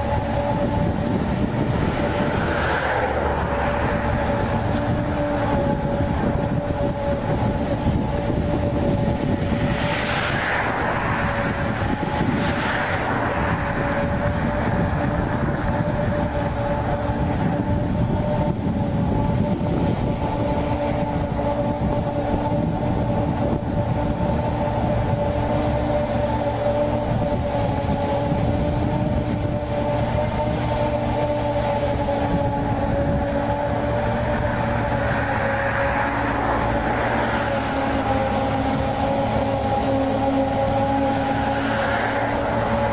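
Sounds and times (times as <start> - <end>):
tracked dumper engine whining: 0.0 - 42.9.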